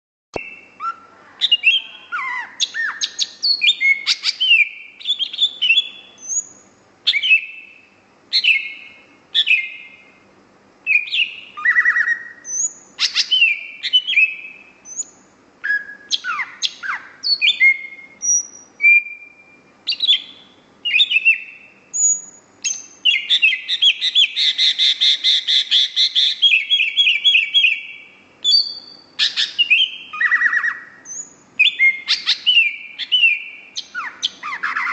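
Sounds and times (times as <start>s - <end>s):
pet bird chirping and whistling: 0.4s - 10.0s, 10.8s - 34.9s
bird chattering trill: 0.4s - 10.1s, 10.9s - 19.2s, 19.9s - 34.9s.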